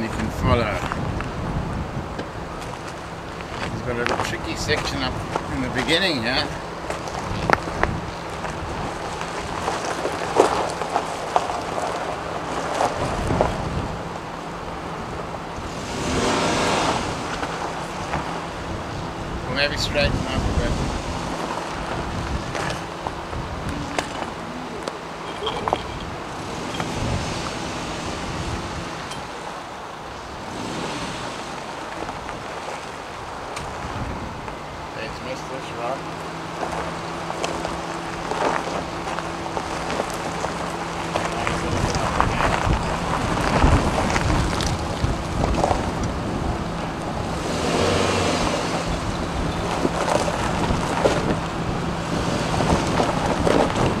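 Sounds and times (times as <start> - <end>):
wind on microphone: 0.0 - 35.0, 36.2 - 54.0
car engine at low revs: 0.0 - 54.0.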